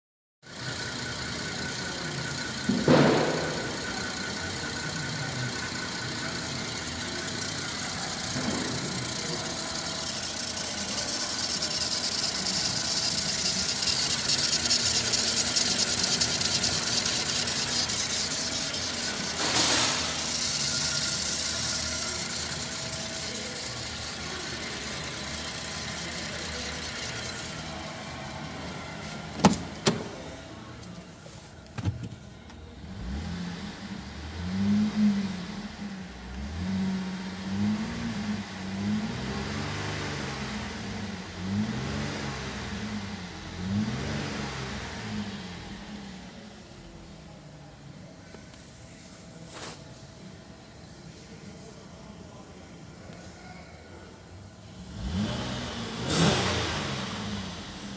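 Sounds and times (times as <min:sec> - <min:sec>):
car engine idling: 0:00.4 - 0:51.8, 0:54.0 - 0:57.9.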